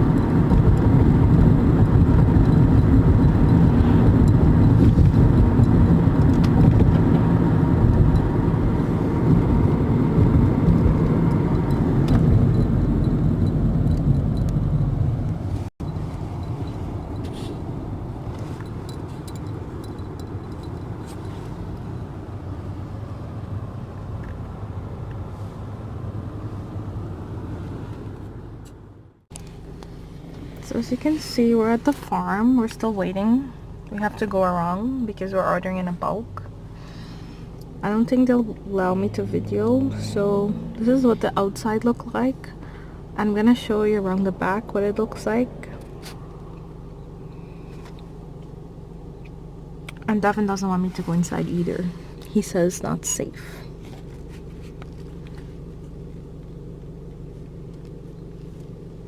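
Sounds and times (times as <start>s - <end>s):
car road and engine noise: 0.0s - 59.0s.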